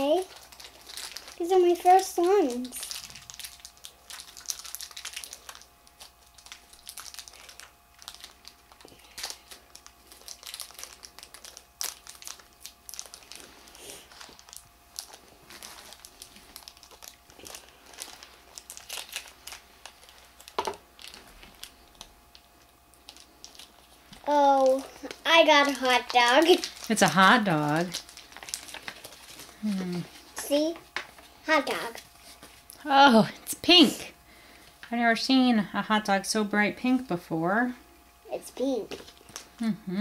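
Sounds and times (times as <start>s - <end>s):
plastic bag crinkling and tearing: 0.0s - 32.9s, 38.9s - 39.7s.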